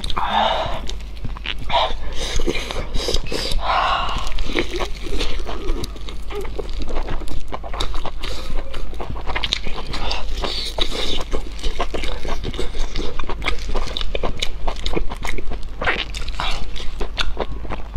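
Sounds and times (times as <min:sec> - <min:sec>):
mouth clicks and smacks: 0:00.0 - 0:17.9
person chewing meat: 0:00.0 - 0:17.9.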